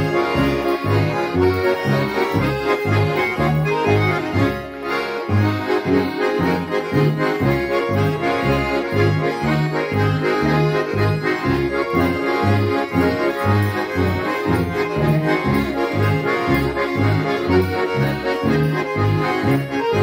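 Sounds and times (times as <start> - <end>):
accordions playing a tune: 0.0 - 20.0
double bass marking the beat: 0.0 - 20.0.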